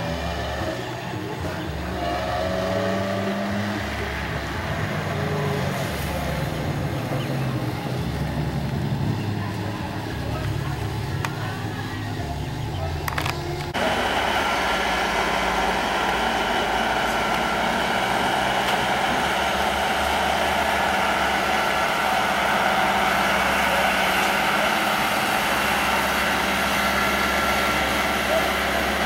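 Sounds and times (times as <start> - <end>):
heavy engine droning: 0.0 - 29.0.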